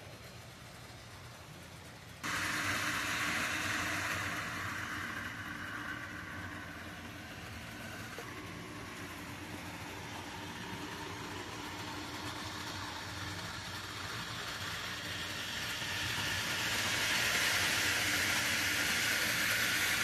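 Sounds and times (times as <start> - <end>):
low hum: 0.0 - 20.0
model train running: 0.0 - 20.0.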